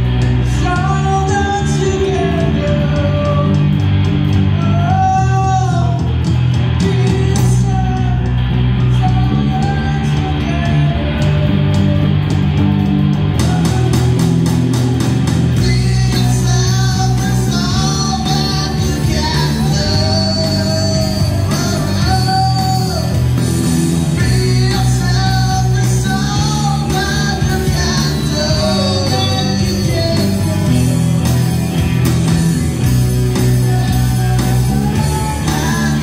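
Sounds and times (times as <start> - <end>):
amplified guitars: 0.0 - 36.0
bass line: 0.0 - 36.0
man singing: 0.3 - 3.8, 4.5 - 12.2, 13.4 - 14.3, 15.5 - 23.4, 24.1 - 31.8, 33.2 - 36.0.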